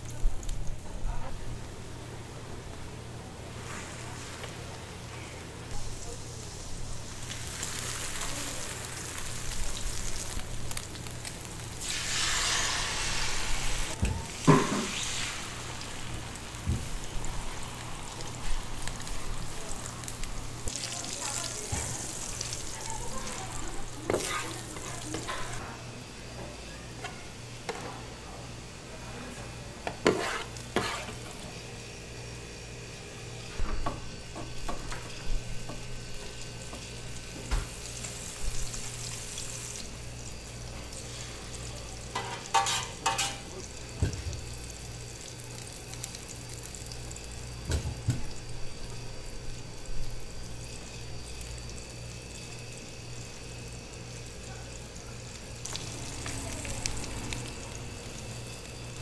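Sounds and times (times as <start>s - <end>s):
egg sizzling on griddle: 5.7s - 25.7s, 29.8s - 59.0s.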